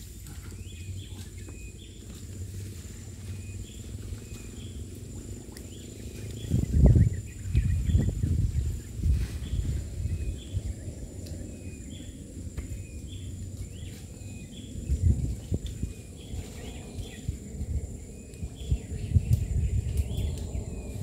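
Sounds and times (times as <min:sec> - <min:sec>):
low rumbling noise: 0:00.0 - 0:21.0.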